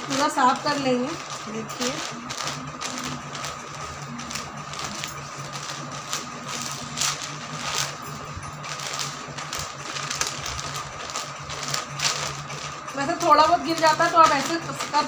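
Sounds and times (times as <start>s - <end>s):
cloth wiping plastic mat: 0.0s - 15.0s.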